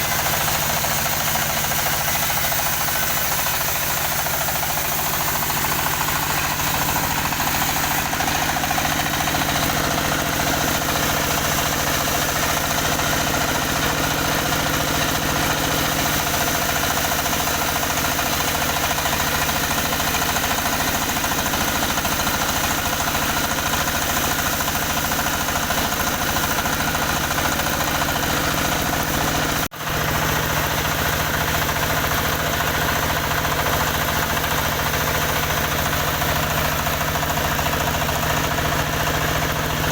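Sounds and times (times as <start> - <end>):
saw engine running: 0.0 - 39.9.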